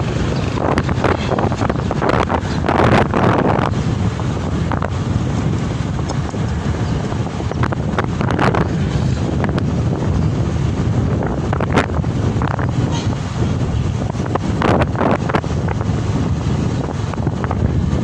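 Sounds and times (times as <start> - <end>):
motorcycle engine and road rumble: 0.0 - 18.0
wind buffeting microphone: 0.0 - 18.0.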